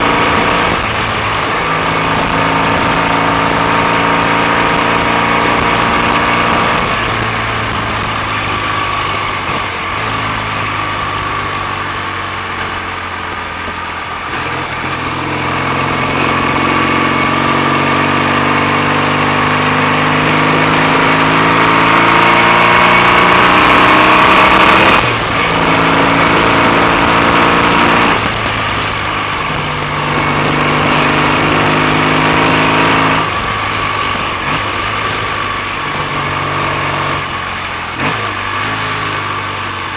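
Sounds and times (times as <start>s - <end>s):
motorcycle engine accelerating through gears: 0.0s - 39.9s.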